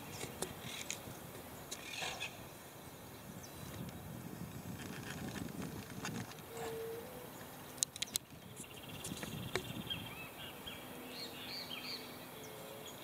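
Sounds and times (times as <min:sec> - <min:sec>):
birds calling: 0:00.0 - 0:04.1, 0:04.8 - 0:13.0.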